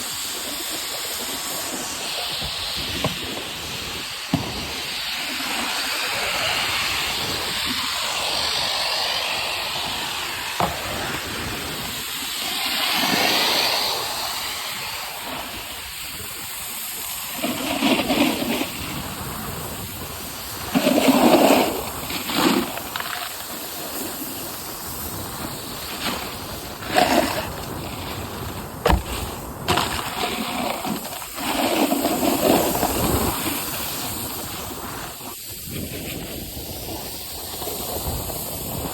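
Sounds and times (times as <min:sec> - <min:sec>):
snowboard hissing over snow: 0:00.0 - 0:38.9
snowboard scraping: 0:00.0 - 0:38.9.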